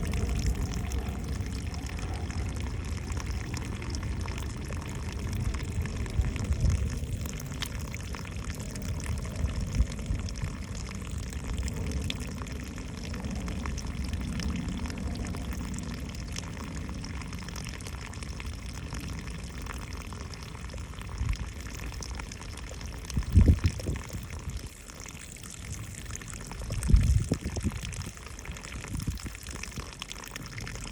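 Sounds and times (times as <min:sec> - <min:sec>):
water running and pouring: 0:00.0 - 0:30.9.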